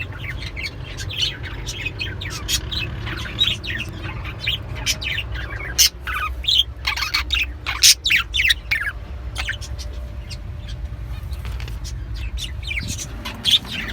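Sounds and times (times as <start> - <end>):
small birds chirping: 0.0 - 13.9
steady low hum: 0.0 - 13.9.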